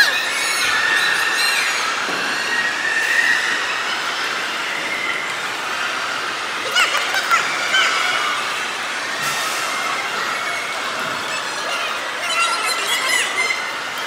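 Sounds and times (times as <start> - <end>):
crowd cheering and yelling: 0.0 - 14.0
crowd din: 0.0 - 14.0.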